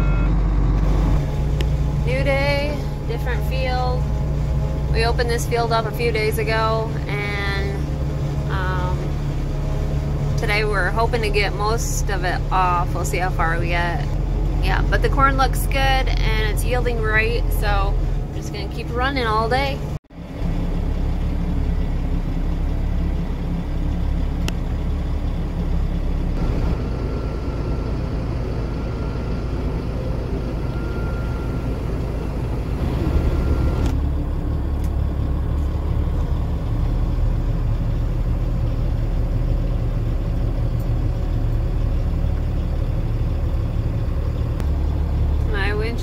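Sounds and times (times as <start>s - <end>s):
diesel truck engine drone: 0.0s - 46.0s.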